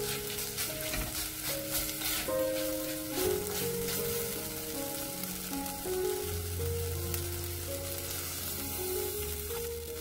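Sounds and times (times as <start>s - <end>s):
background music: 0.0s - 10.0s
food sizzling in oil: 0.0s - 10.0s.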